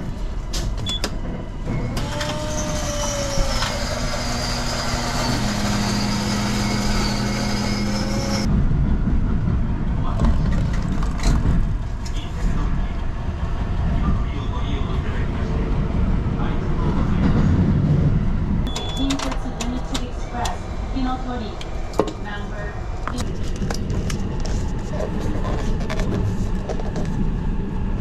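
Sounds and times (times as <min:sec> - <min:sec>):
train rumble: 0:00.0 - 0:28.0
train running whine and hum: 0:00.0 - 0:28.0.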